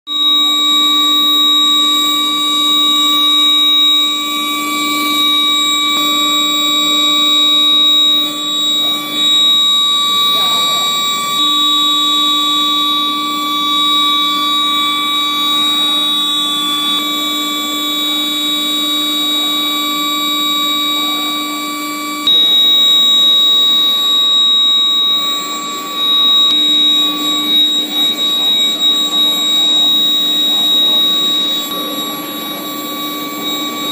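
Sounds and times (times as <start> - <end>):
induction furnace electrical whine: 0.1 - 33.9.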